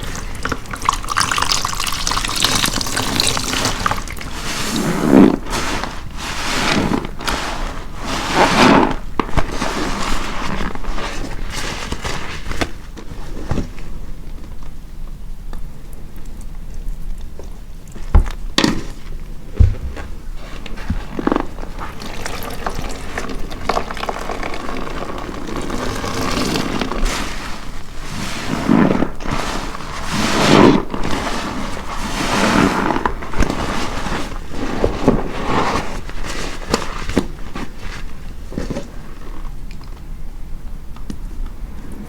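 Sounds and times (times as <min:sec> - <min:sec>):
soapy sponge squishing: 0:00.0 - 0:13.8, 0:18.0 - 0:39.6.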